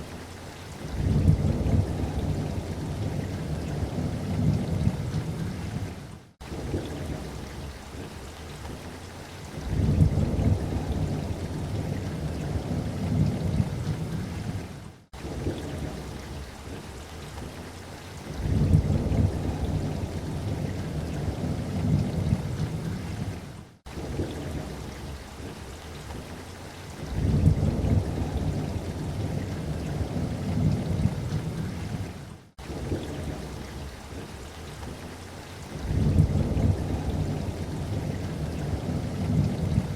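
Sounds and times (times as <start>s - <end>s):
light rain: 0.0s - 39.9s
low rolling thunder: 0.8s - 8.1s, 9.6s - 16.9s, 18.3s - 25.6s, 27.0s - 35.0s, 35.7s - 39.9s.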